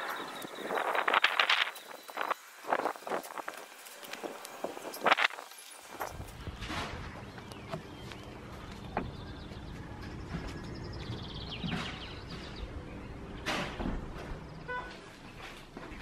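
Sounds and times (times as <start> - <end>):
small birds chirping: 0.0 - 13.5.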